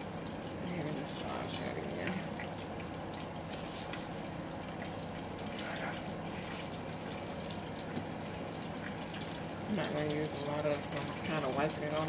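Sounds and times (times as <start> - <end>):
oil and butter sizzling in pan: 0.0 - 12.0.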